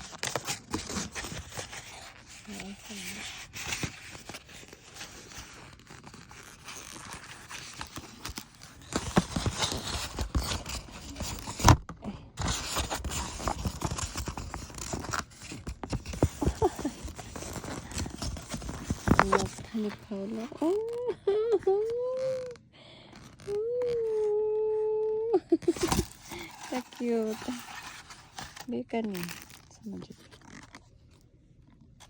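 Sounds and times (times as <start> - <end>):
packaging rustling: 0.0 - 24.3, 25.6 - 31.2.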